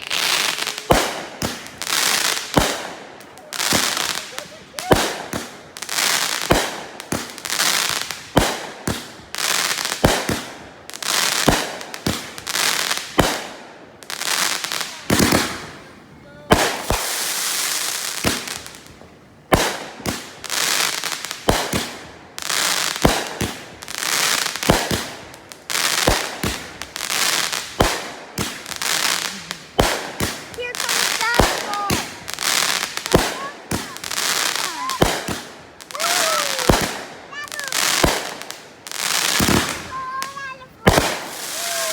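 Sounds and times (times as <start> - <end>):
fireworks bangs: 0.0 - 41.9
fireworks crackling hiss: 0.0 - 41.9.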